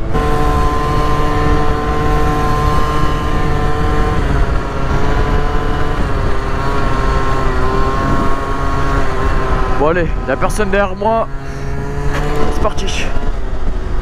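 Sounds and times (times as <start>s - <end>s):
scooter engine at high revs: 0.0s - 14.0s
wind on microphone: 0.0s - 14.0s.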